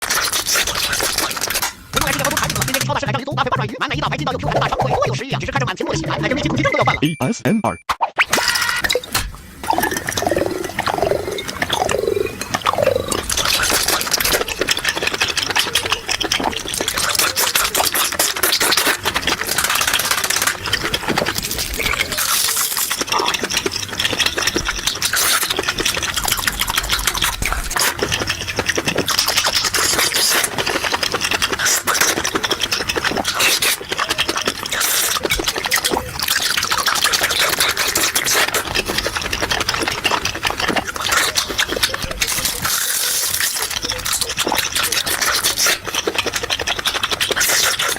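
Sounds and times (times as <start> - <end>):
wet chewing and slurping: 0.0 - 3.0, 8.4 - 47.9.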